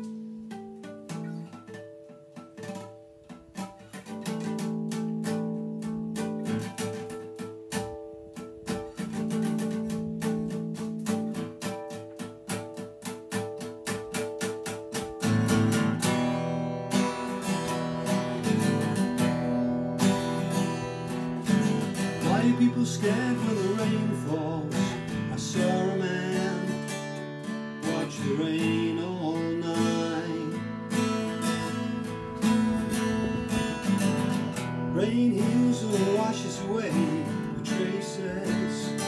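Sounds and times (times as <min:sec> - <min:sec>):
acoustic guitar strumming chords: 0:00.0 - 0:39.0.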